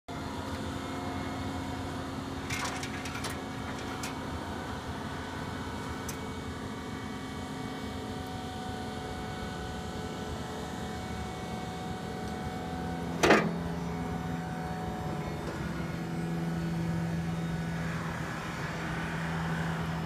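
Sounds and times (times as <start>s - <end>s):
lift motor running: 0.1s - 20.0s.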